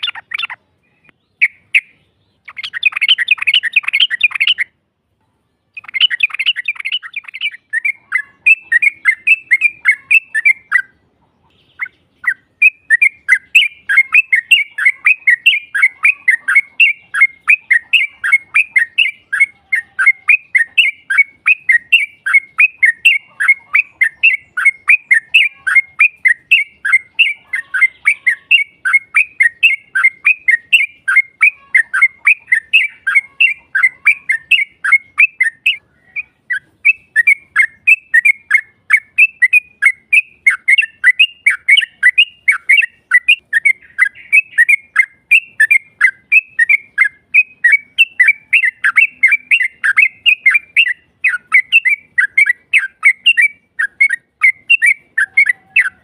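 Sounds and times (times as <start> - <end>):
bird chattering call: 0.0 - 4.8, 5.7 - 56.0.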